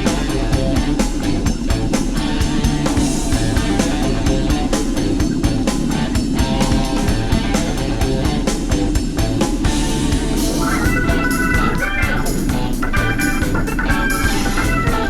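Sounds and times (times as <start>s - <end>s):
rock music: 0.0s - 15.0s
sustained organ-like line: 0.0s - 15.0s.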